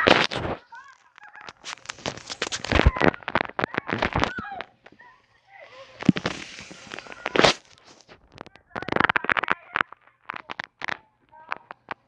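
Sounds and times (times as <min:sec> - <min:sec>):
faint voices: 0:00.0 - 0:12.0
firecrackers cracking: 0:00.0 - 0:12.0.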